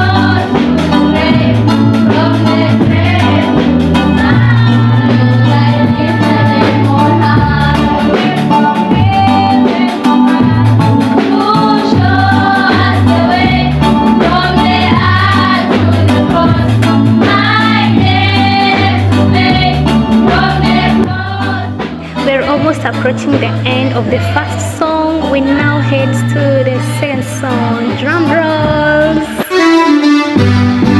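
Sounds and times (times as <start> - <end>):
group singing gospel: 0.0 - 30.9
instrumental backing with bass: 0.0 - 30.9.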